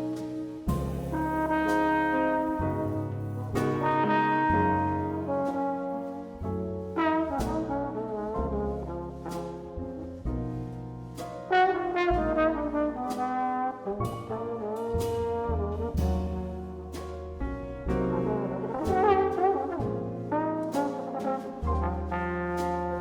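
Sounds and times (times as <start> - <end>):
jazz band playing: 0.0 - 23.0
trombone: 0.0 - 23.0.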